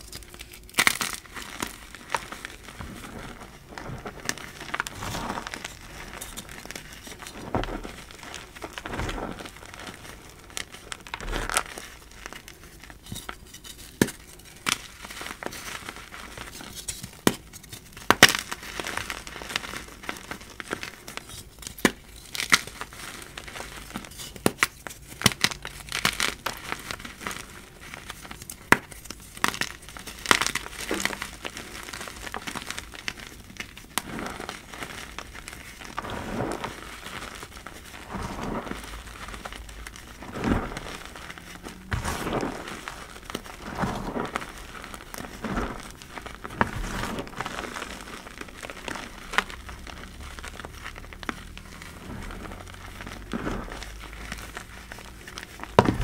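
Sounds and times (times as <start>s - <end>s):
chalk crunching and crackling: 0.0s - 56.0s.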